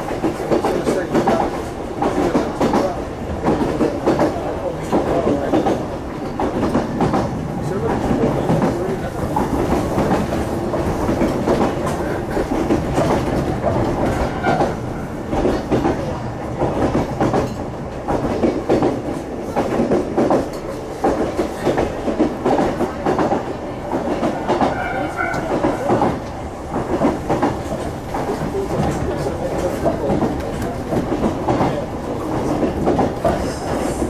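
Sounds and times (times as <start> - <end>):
train wheels rumbling: 0.0 - 34.0.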